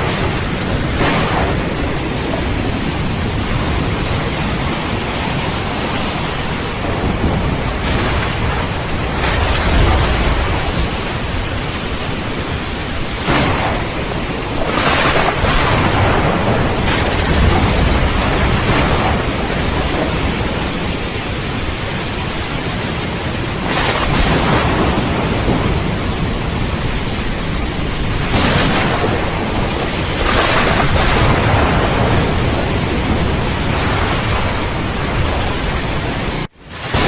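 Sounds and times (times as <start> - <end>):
heavy rain: 0.0 - 37.0
thunder rumbling: 0.0 - 37.0.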